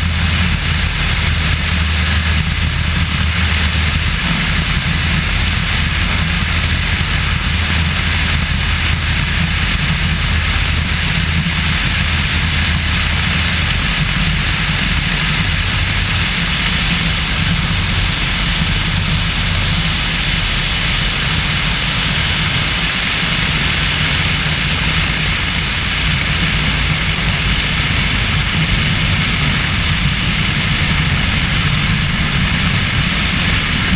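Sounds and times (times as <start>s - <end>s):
propeller plane engine drone: 0.0s - 33.9s
wind rush over microphone: 0.0s - 33.9s.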